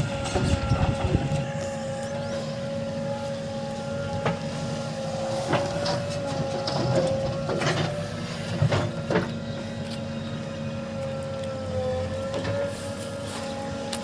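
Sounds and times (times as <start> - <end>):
heavy diesel machinery running: 0.0 - 14.0
high whine: 0.0 - 14.0.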